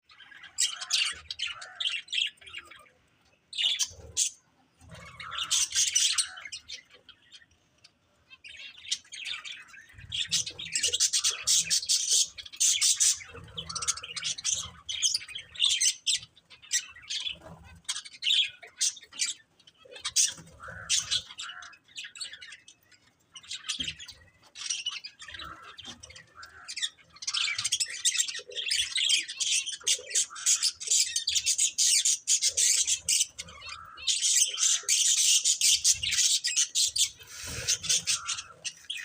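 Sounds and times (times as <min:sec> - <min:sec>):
budgerigars chirping: 0:03.6 - 0:07.4, 0:08.3 - 0:39.0.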